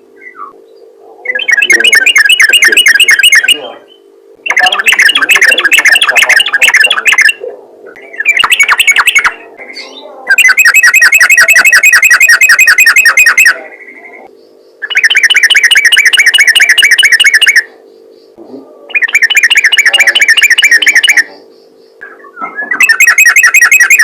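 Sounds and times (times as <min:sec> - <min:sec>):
faint steady hum: 0:00.0 - 0:24.0
bird chattering song: 0:00.1 - 0:24.0.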